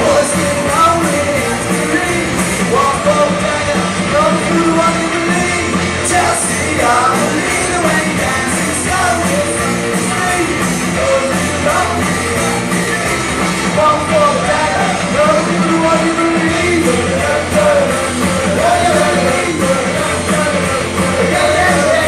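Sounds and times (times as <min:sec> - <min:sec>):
lead vocal singing: 0:00.0 - 0:22.0
live rock band playing: 0:00.0 - 0:22.0.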